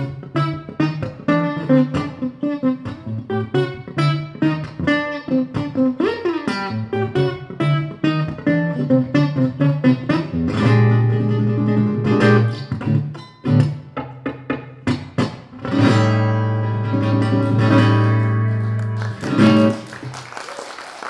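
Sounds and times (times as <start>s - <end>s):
acoustic guitar finger-picked: 0.0s - 19.9s.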